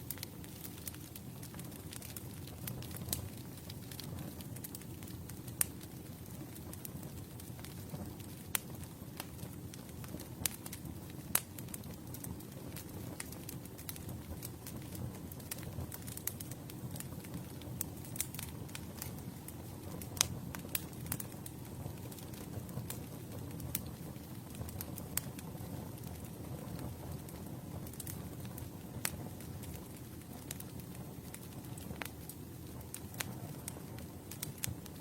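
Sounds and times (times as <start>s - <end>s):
campfire flame rush: 0.0s - 35.0s
wood crackling and popping: 0.0s - 35.0s.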